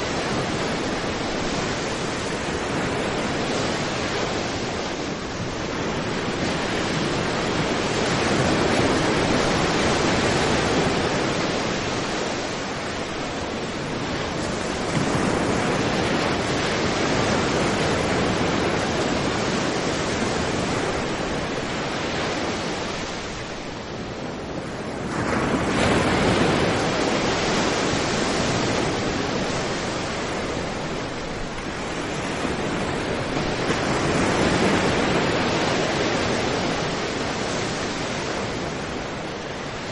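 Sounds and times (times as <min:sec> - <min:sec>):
sea surf breaking on beach: 0:00.0 - 0:39.9.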